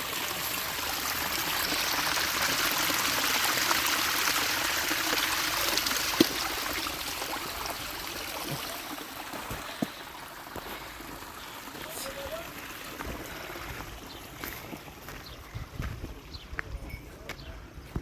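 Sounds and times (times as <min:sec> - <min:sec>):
water running and splashing: 0:00.0 - 0:16.0.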